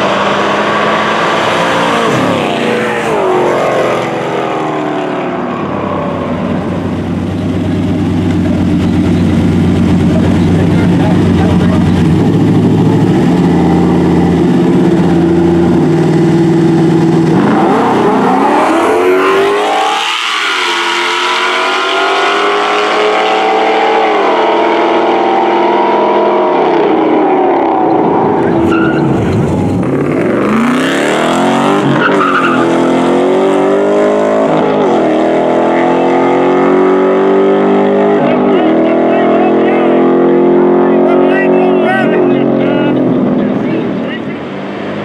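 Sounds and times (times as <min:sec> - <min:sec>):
race car engines revving: 0:00.0 - 0:45.0.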